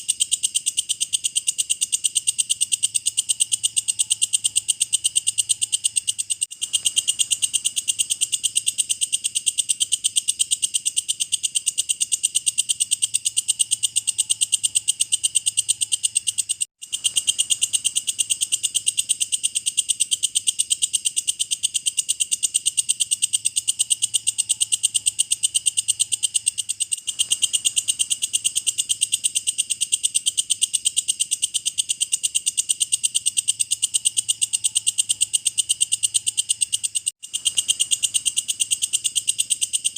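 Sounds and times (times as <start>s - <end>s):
insect trilling shrilly: 0.0s - 39.9s.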